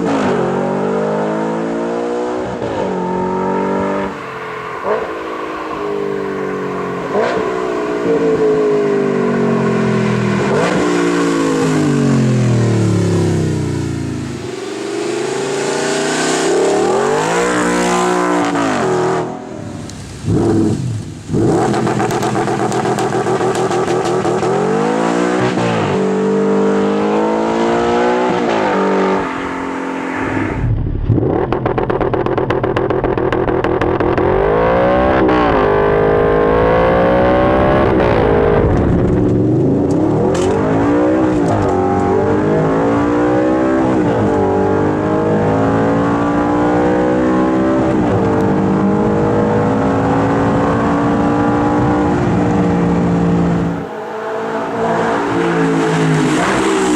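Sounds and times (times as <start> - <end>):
car engine revving hard: 0.0 - 19.6, 20.2 - 56.9.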